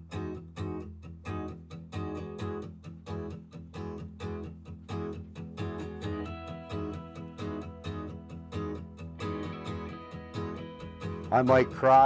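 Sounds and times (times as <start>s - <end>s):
strummed guitar song: 0.0s - 12.0s.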